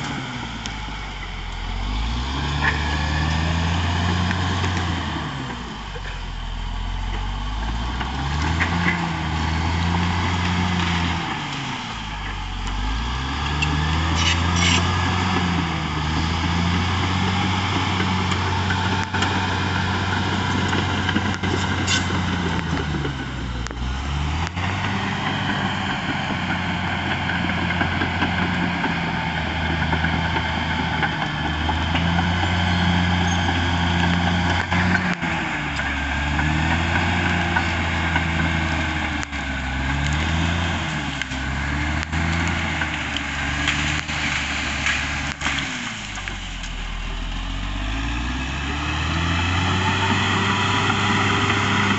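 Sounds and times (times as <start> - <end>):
bulldozer diesel engine working: 0.0 - 51.9.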